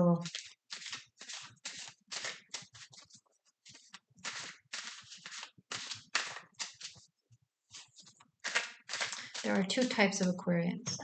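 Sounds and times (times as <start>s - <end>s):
cards being shuffled: 0.2s - 7.1s, 7.7s - 10.0s.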